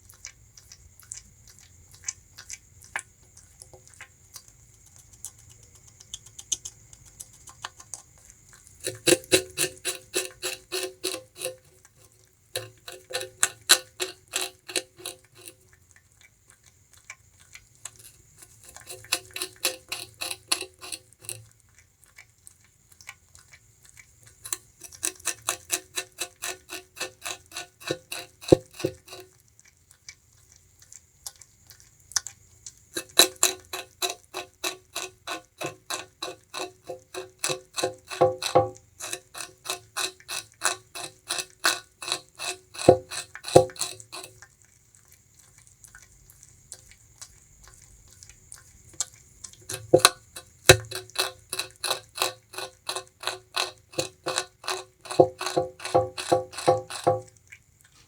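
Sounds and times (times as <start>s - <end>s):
rodent gnawing sugarcane: 0.0s - 58.0s.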